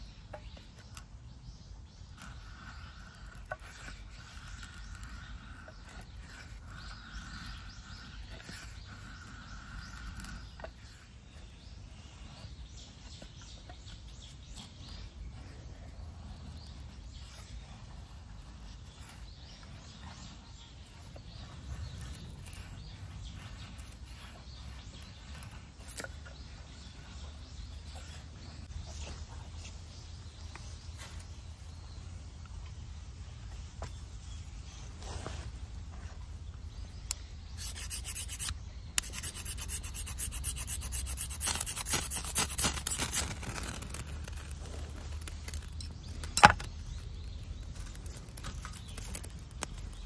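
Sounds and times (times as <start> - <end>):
knife scraping wood: 0.1 - 29.8, 33.6 - 50.0.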